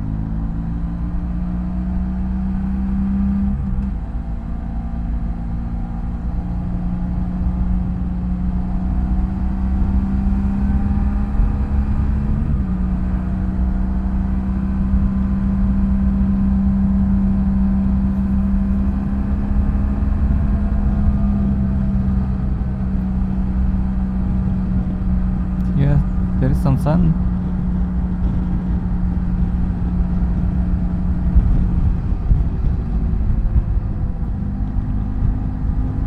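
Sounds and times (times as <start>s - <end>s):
motorcycle engine cruising: 0.0s - 36.0s
wind and road rumble: 0.0s - 36.0s.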